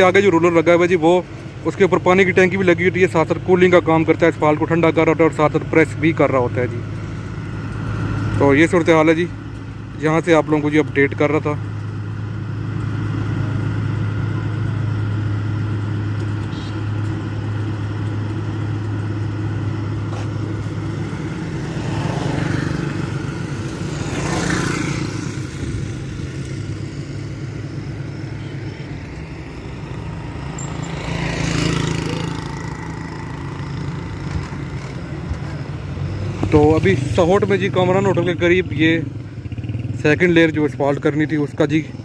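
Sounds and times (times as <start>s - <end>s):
road roller engine humming: 0.0s - 42.0s
vehicles passing by: 0.0s - 42.0s.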